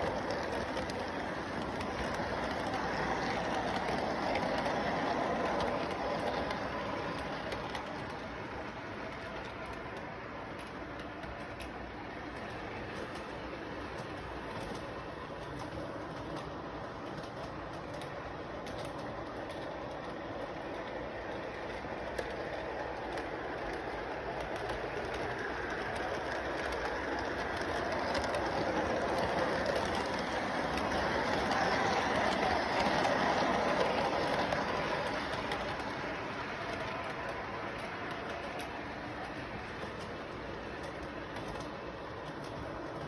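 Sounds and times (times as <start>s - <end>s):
train rumbling on track: 0.0s - 43.0s.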